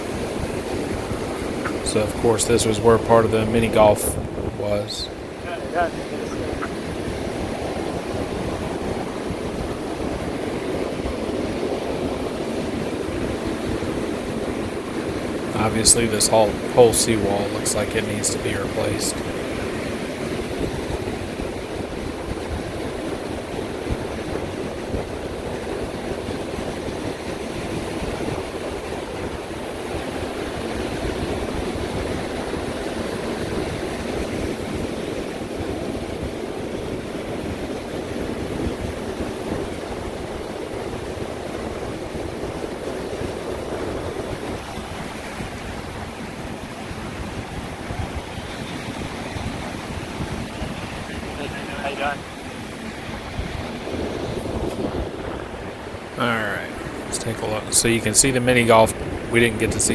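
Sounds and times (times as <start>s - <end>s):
ocean surf on beach: 0.0s - 59.9s
wind rumbling on microphone: 0.0s - 59.9s.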